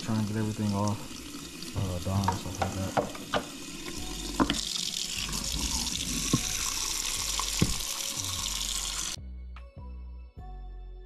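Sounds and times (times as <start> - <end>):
faucet running into a sink: 0.0 - 9.2.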